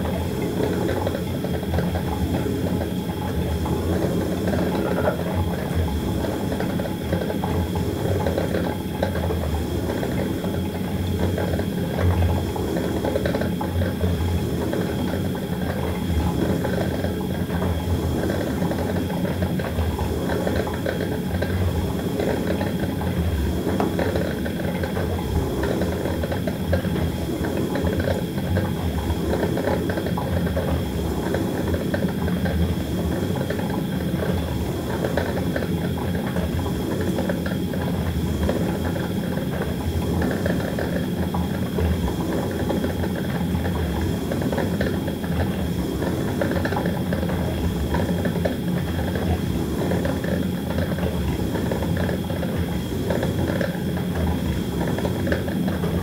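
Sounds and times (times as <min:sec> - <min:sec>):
coffee maker bubbling and gurgling: 0:00.0 - 0:56.0.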